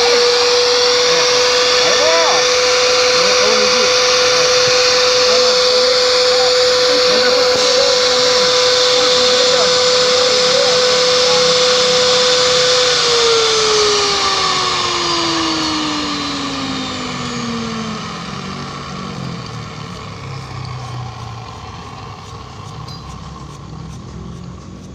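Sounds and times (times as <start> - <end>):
pipe threading machine motor whine: 0.0 - 24.9.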